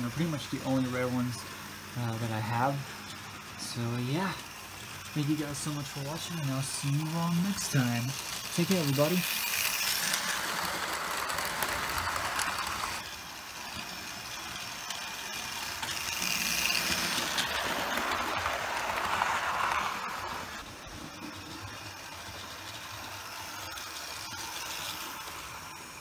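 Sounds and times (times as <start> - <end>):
model trains running on track: 0.0 - 26.0.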